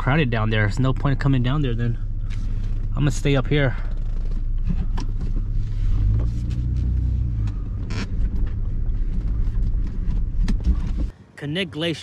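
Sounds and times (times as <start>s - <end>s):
engine rumble inside cab: 0.0s - 11.2s.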